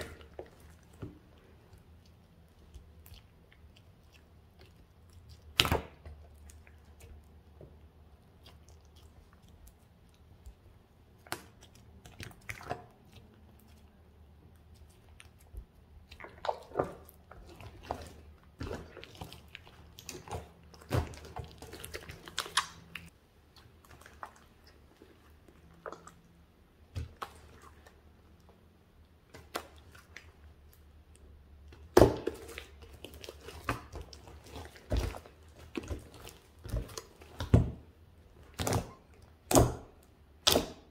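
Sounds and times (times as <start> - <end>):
slime squelching: 0.0 - 40.9.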